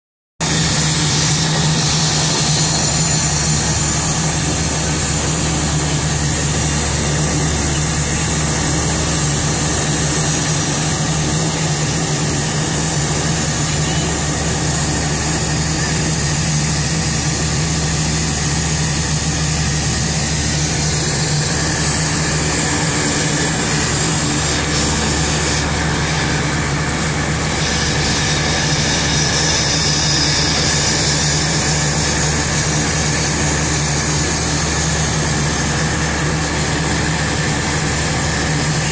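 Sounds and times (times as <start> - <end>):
turboprop engines droning: 0.4 - 38.9.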